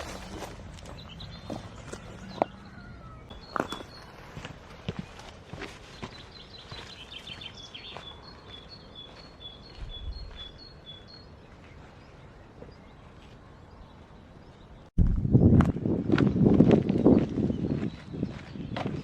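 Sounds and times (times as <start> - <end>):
songbird singing: 0.0 - 15.0, 16.3 - 19.0.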